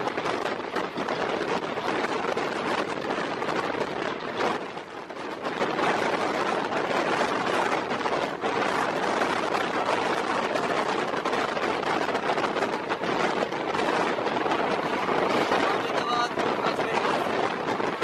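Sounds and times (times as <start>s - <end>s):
moving train rumbling: 0.0s - 18.0s
passing container train clatter: 0.0s - 18.0s
rushing wind: 0.0s - 18.0s.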